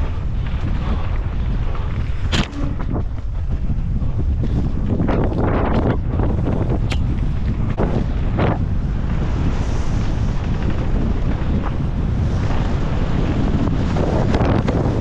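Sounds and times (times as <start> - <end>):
bike clattering over rough ground: 0.0 - 15.0
wind buffeting microphone: 0.0 - 15.0.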